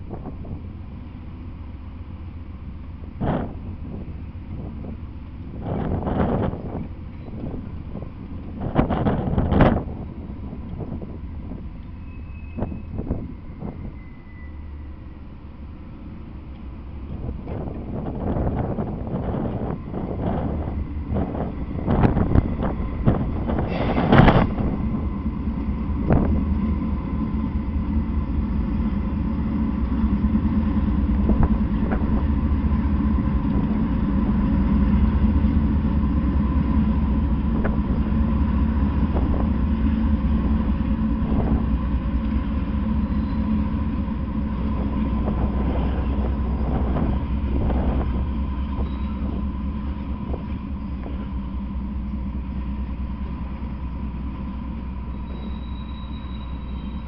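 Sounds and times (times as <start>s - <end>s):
locomotive engines droning: 0.0s - 57.0s
train wheels clacking on rail joints: 3.2s - 14.2s, 16.5s - 57.0s.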